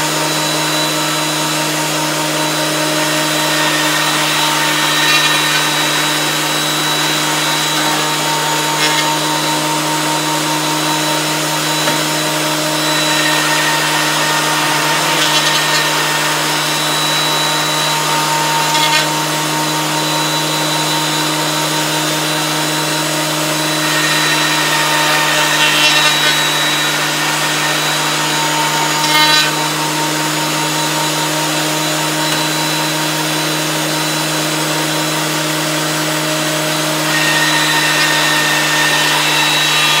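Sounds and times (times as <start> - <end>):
wood planer humming and whining: 0.0 - 40.0.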